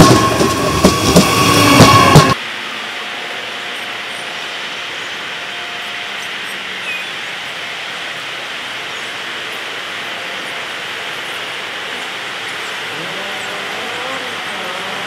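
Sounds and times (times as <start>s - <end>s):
ambient hiss: 0.0s - 15.0s
distant electric train approaching: 0.0s - 15.0s.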